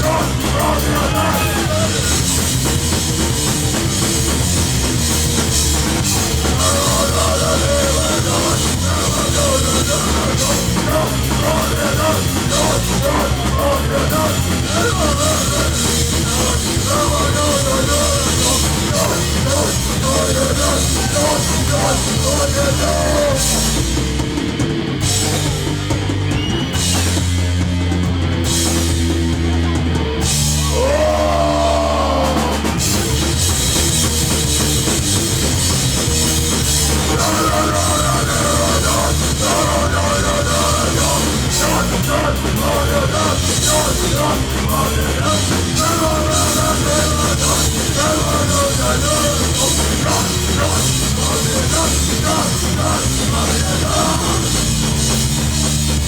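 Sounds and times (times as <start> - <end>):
punk band playing loud: 0.0 - 56.0.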